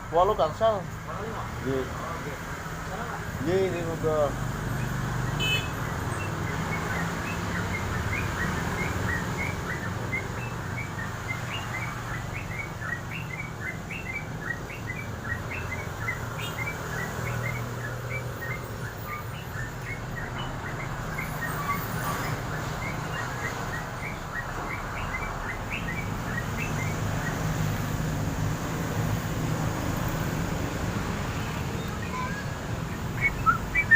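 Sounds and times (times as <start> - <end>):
bird chirping song: 3.4 - 33.9.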